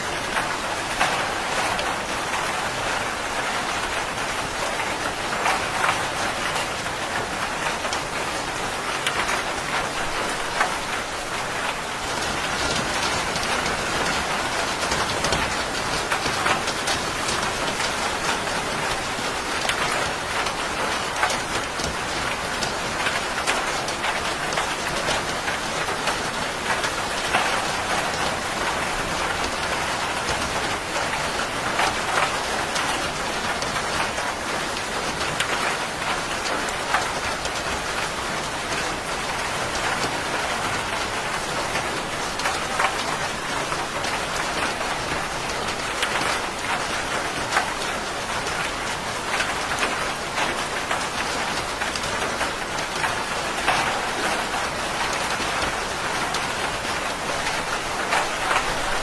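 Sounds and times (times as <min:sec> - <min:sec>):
steady rain falling: 0:00.0 - 0:59.0
raindrops ticking on a surface: 0:00.1 - 0:59.0.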